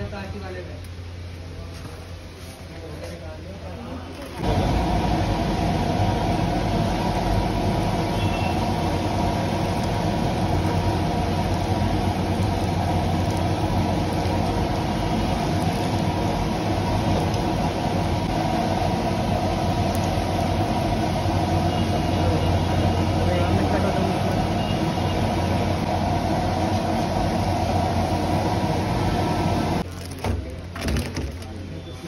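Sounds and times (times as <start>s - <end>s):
low mechanical hum: 0.0s - 32.0s
food deep-frying in hot oil: 3.7s - 32.0s.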